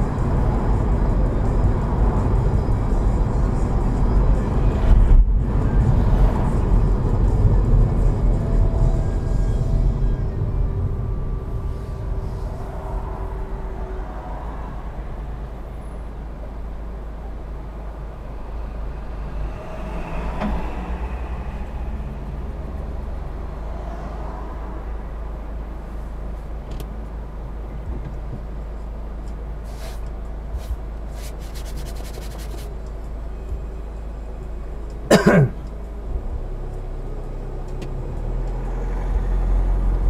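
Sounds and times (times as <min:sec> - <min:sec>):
car engine rumble inside cabin: 0:00.0 - 0:40.0
outside traffic: 0:00.0 - 0:40.0
road noise: 0:00.0 - 0:40.0.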